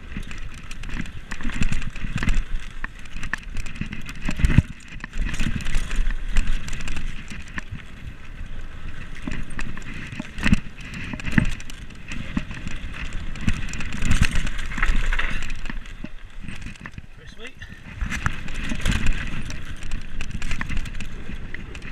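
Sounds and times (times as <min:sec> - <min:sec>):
bike knocks and rattles: 0:00.0 - 0:21.9
tyres crunching over gravel: 0:00.0 - 0:21.9
wind buffeting microphone: 0:00.0 - 0:21.9.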